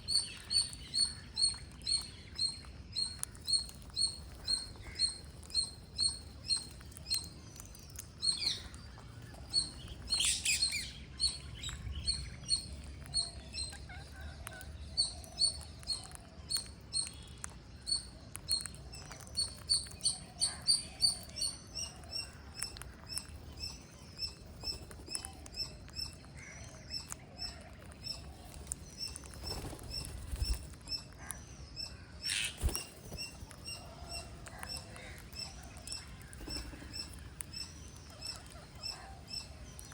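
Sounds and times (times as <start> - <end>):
harsh bird calls: 0.0 - 7.3, 8.1 - 16.2, 19.4 - 39.9
birds chirping: 0.0 - 39.9.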